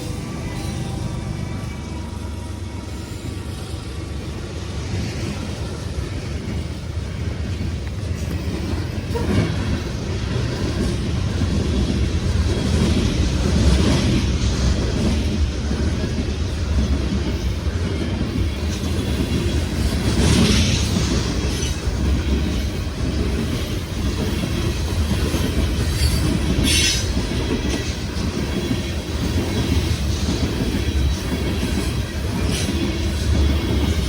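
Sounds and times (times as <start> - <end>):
freight train wheels rumbling on rail: 0.0 - 34.0
train wheels clacking: 3.2 - 34.0.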